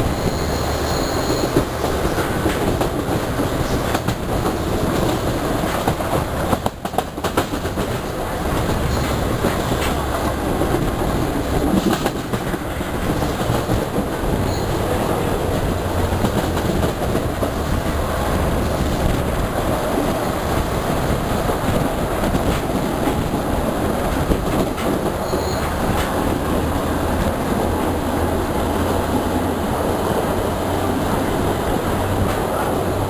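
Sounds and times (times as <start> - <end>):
rail joint clicks: 0.0 - 33.0
train wheels rumbling on rails: 0.0 - 33.0.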